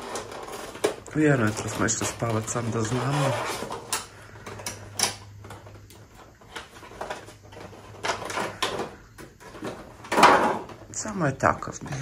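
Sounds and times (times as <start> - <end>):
packaging rustling: 0.0 - 11.1.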